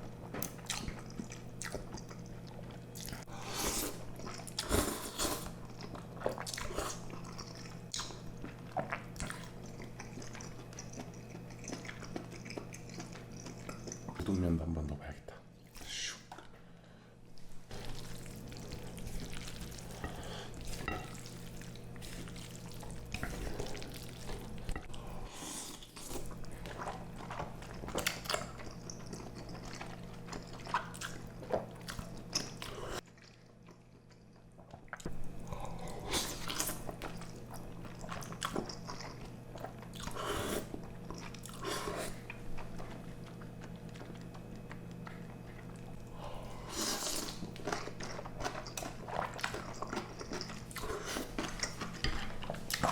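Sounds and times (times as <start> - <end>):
chewing and slurping food: 0.2 - 14.2, 17.4 - 52.9.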